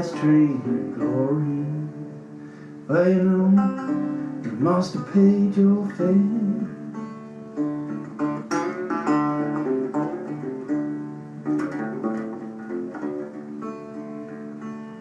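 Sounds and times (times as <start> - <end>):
blues guitar plucked notes: 0.0 - 15.0.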